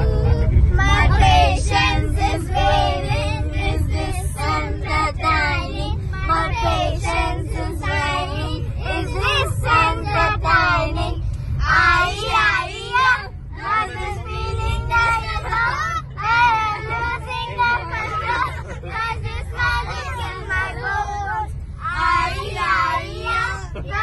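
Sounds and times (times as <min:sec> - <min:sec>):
bus rumbling: 0:00.0 - 0:24.0.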